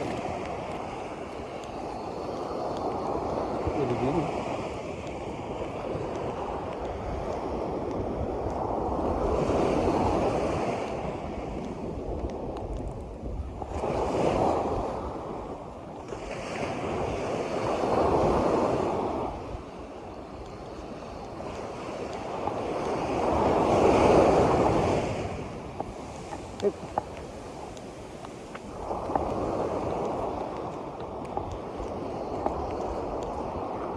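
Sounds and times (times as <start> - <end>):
sea waves breaking: 0.0 - 33.9
wind rumbling on microphone: 0.0 - 33.9.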